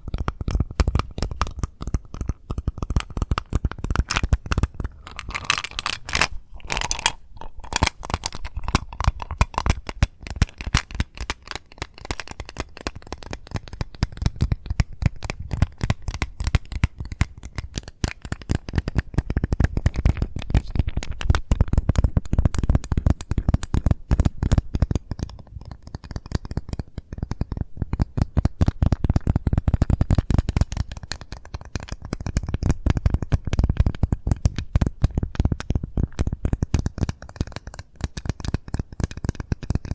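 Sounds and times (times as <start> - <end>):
fast tapping on mint container: 0.0 - 39.9.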